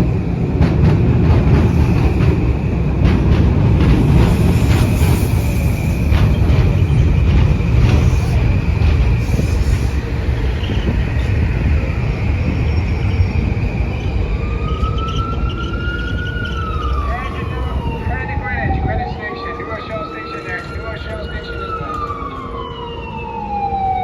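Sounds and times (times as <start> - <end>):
train rumbling: 0.0 - 24.0
emergency vehicle siren: 3.9 - 24.0.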